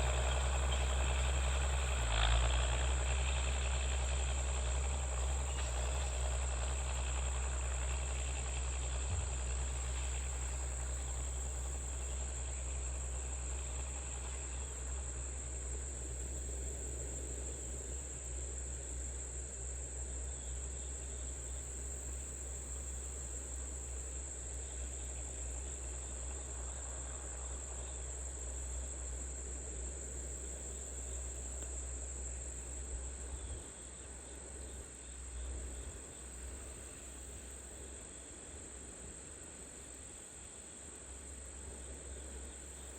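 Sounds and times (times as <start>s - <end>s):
tractor engine droning: 0.0s - 38.0s.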